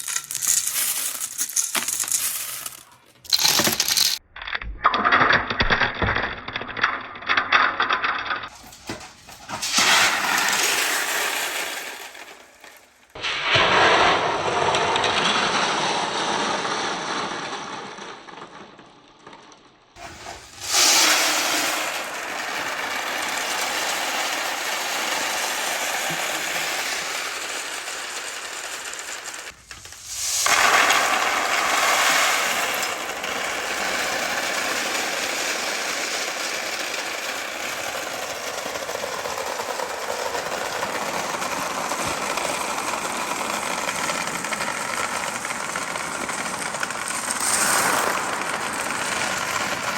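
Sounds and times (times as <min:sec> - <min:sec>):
marbles rolling on wooden ramps: 0:00.0 - 0:49.9.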